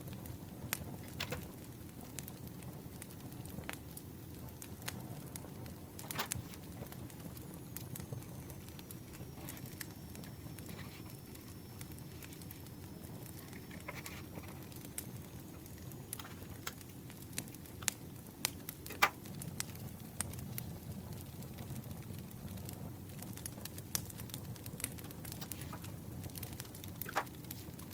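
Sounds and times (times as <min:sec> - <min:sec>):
campfire crackling: 0:00.0 - 0:27.9
sharp pops of fire: 0:00.0 - 0:27.9.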